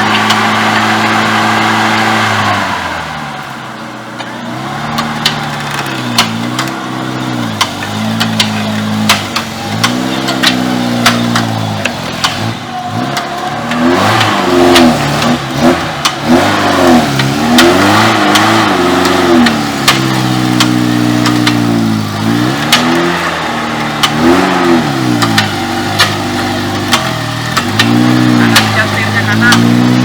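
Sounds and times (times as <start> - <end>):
off-road vehicle engine revving: 0.0 - 30.0
sharp knocks and clacks: 4.2 - 6.8, 7.4 - 21.8, 22.5 - 30.0.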